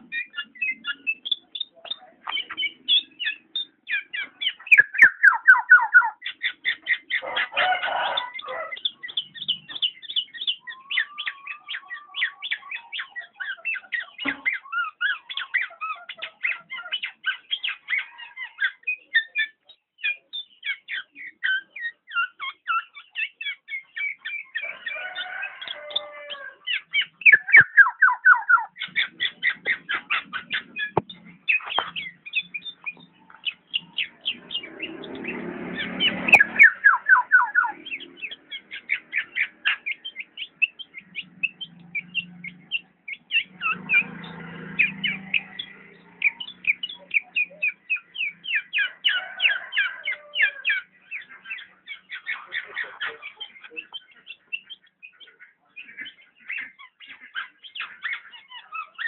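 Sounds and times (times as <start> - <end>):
oriole chattering calls: 0.0 - 59.0.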